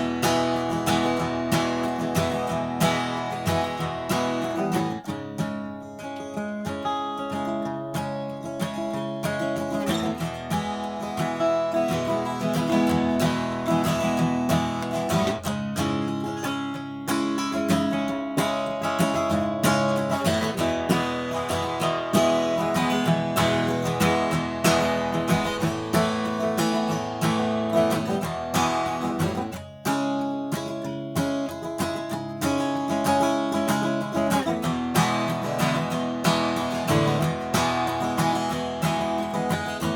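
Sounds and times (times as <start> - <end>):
acoustic guitar strumming and picking: 0.0 - 39.9.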